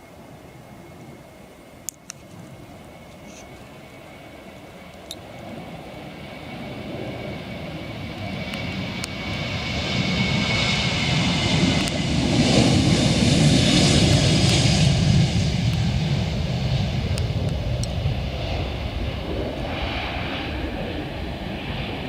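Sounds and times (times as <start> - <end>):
jet airliner taking off: 0.0 - 22.0.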